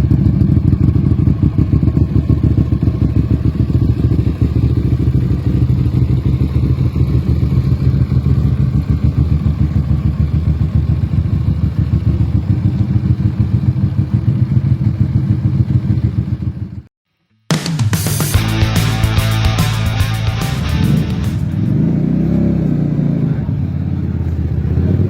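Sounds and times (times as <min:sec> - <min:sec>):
motorcycle engine idling: 0:00.0 - 0:16.9, 0:18.4 - 0:24.9.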